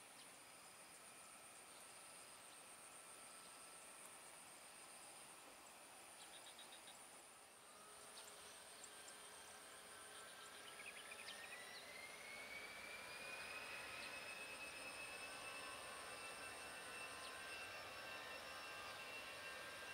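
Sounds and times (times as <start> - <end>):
distant jet engines whining: 0.0 - 19.9.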